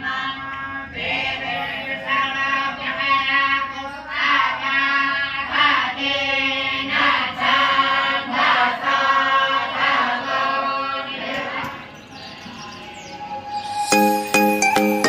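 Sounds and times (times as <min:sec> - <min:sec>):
students chanting prayers: 0:00.0 - 0:13.4.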